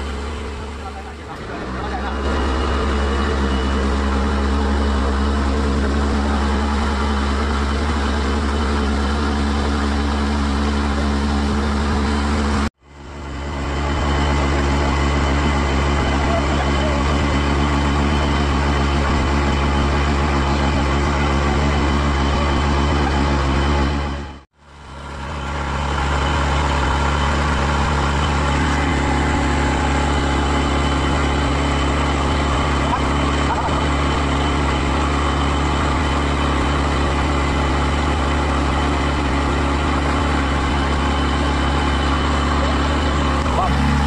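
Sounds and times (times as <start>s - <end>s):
motorboat engine running: 0.0s - 44.0s.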